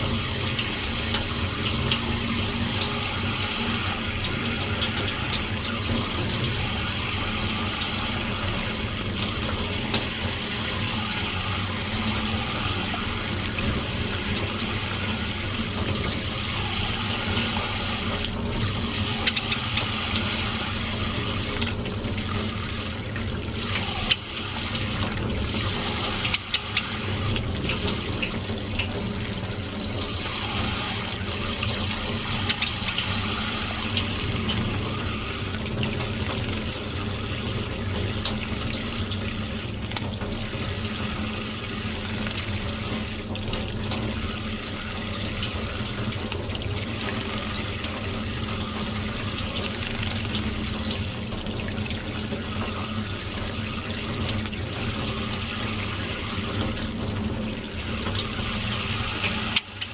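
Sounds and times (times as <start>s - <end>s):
tap water running into sink: 0.0s - 59.9s.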